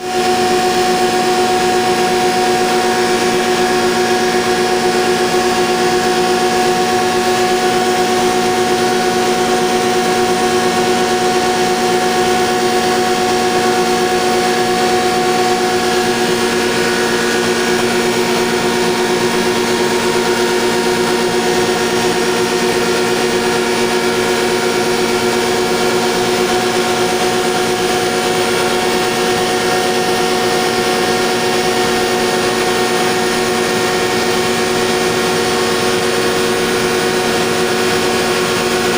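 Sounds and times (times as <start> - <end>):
grinding machine hum: 0.0 - 38.9.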